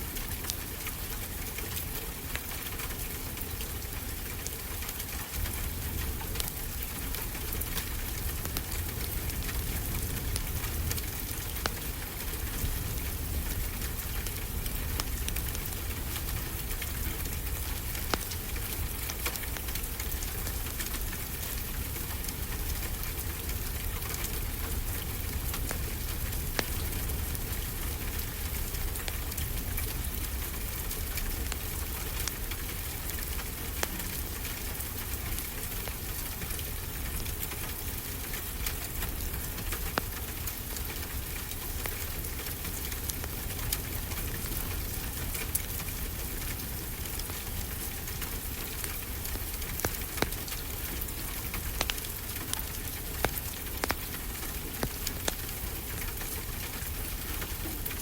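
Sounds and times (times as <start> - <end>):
rain falling: 0.0 - 58.0
wood fire crackling: 0.0 - 58.0.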